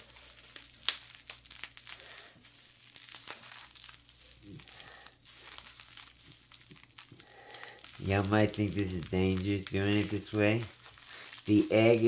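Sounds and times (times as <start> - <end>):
bubble wrap crinkling: 0.0 - 12.0
small faint crackles: 0.0 - 12.0.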